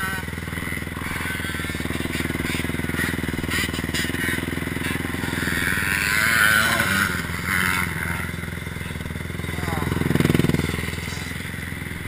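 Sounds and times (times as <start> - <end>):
motorbike engine running at low revs: 0.0 - 12.0.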